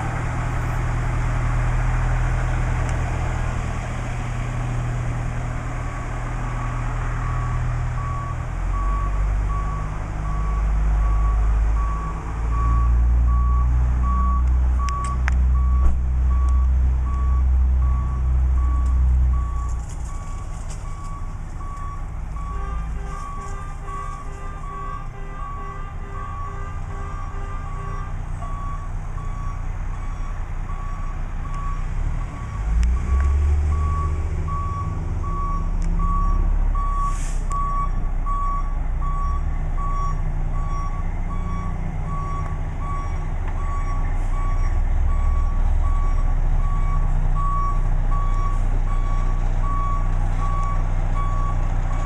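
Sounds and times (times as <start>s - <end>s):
diesel engine: 0.0s - 52.0s
reverse alarm beeping: 6.6s - 22.6s, 23.2s - 51.7s
second beeping alarm: 6.6s - 51.7s.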